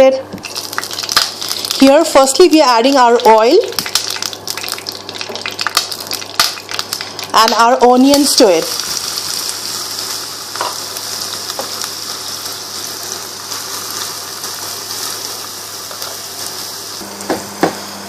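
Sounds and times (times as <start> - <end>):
onions sizzling in hot oil: 0.4 - 18.0.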